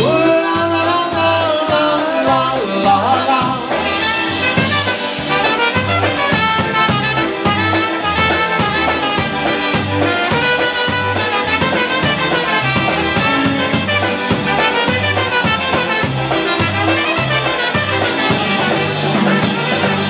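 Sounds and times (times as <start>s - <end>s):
polka band playing: 0.0s - 20.0s
trumpet melody: 0.0s - 20.0s.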